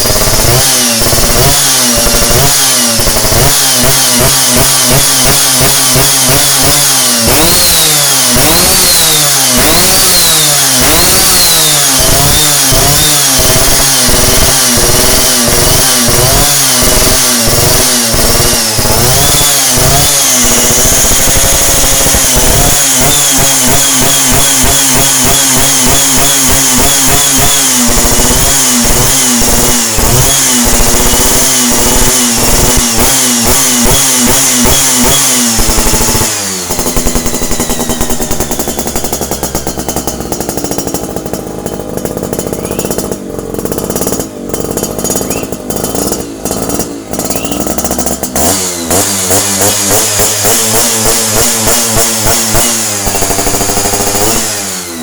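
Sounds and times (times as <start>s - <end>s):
two-stroke engine revving: 0.0s - 55.0s.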